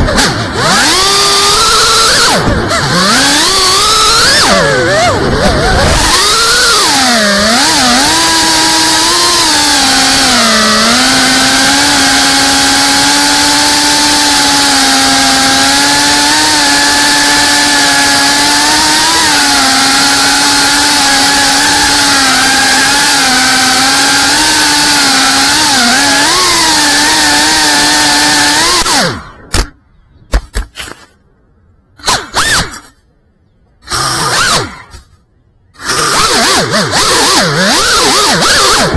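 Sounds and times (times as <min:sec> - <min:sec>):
drone propellers whining: 0:00.0 - 0:29.5, 0:33.8 - 0:38.9.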